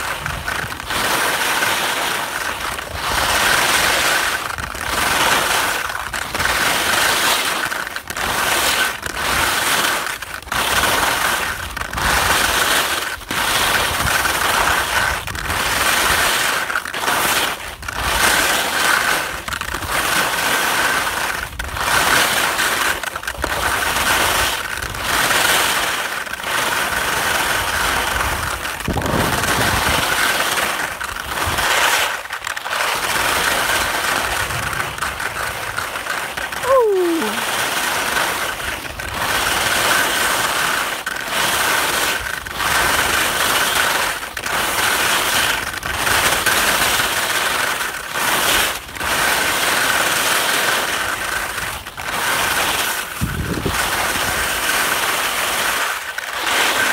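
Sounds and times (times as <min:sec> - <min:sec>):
skis scraping over crusty snow: 0:00.0 - 0:56.9.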